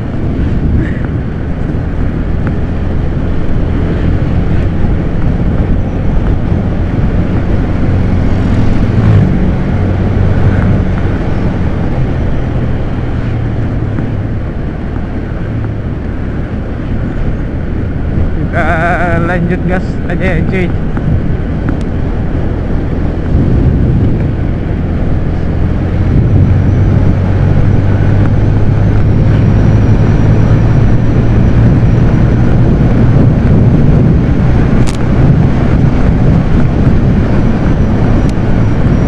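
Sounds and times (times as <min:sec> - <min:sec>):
motorcycle engine running: 0:00.0 - 0:39.0
steady rushing noise: 0:00.0 - 0:39.0.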